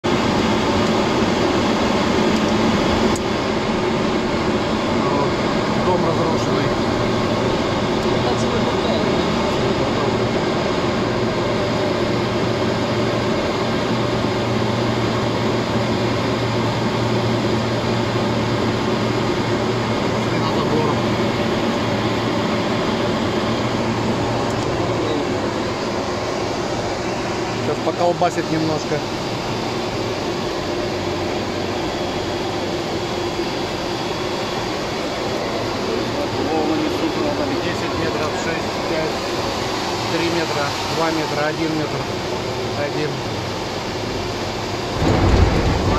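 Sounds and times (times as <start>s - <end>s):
jet engines running: 0.0s - 45.9s
mid-pitched hum: 0.1s - 45.9s.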